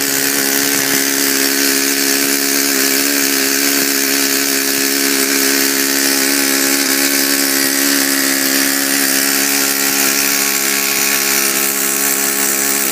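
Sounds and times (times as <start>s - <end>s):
model engine buzzing: 0.0s - 12.9s.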